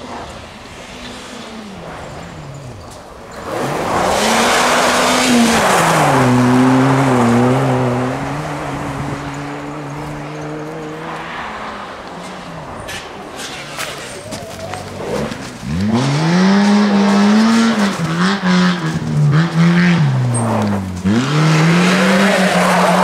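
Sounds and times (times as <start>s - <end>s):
rally car engine racing: 0.0s - 23.0s
tyres rushing on snow: 0.0s - 23.0s.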